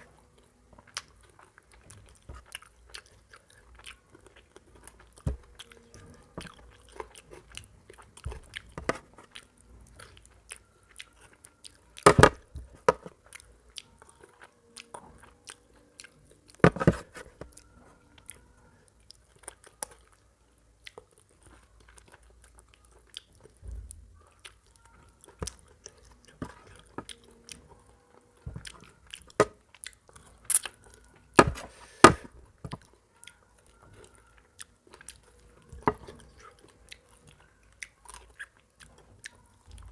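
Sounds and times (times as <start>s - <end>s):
man chewing and lip-smacking: 0.2s - 20.2s, 20.8s - 31.4s, 32.5s - 39.9s.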